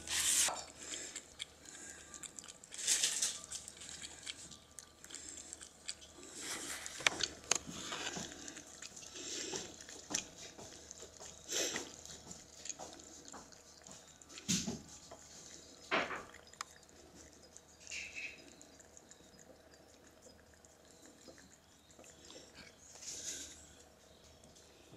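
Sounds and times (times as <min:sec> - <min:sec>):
cats licking and chewing: 0:00.0 - 0:24.9.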